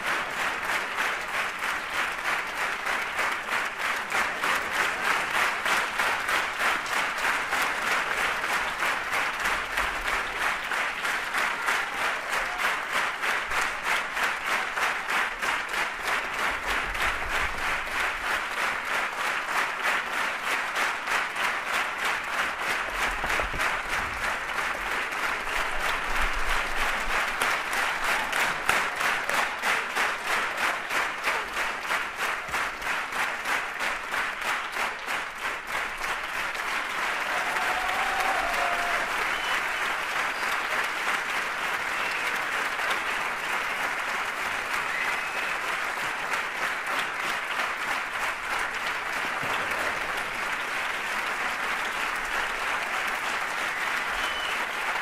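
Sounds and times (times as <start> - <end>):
audience applauding in rhythm: 0.0 - 55.0.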